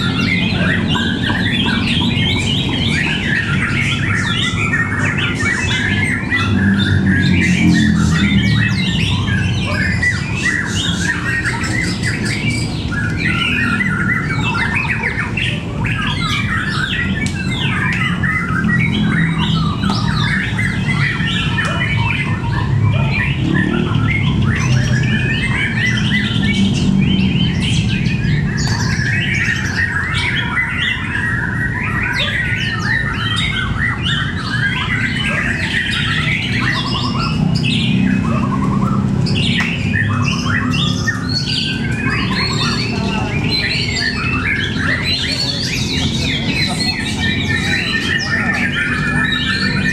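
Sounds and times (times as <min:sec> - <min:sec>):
birds chirping and singing: 0:00.0 - 0:49.9.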